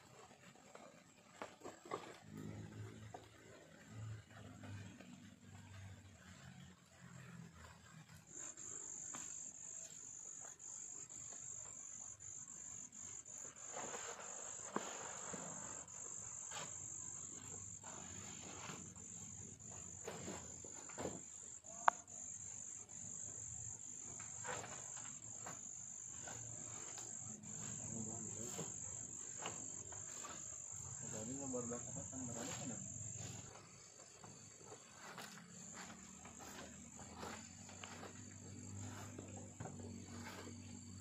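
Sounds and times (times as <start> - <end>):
insects chirring: 5.7 - 41.0.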